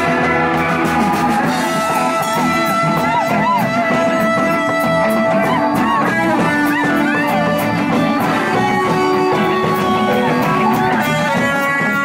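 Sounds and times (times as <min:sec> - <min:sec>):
blues band playing: 0:00.0 - 0:12.0
electric guitar bent notes: 0:00.0 - 0:12.0.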